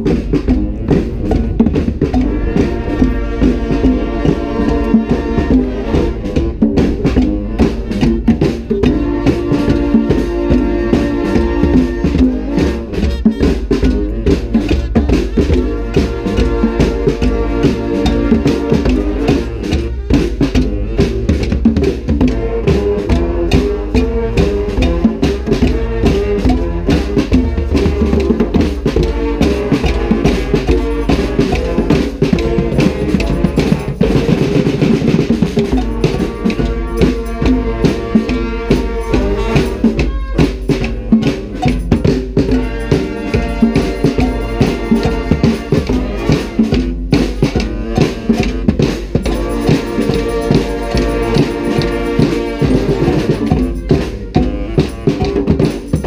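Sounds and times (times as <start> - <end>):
brass band playing: 0.0 - 56.0
snare and bass drum beating: 0.0 - 56.0.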